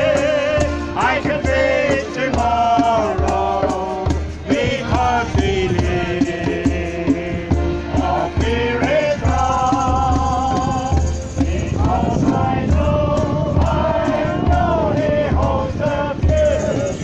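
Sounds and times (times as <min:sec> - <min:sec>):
group singing a worship song: 0:00.0 - 0:17.0
musical accompaniment: 0:00.0 - 0:17.0.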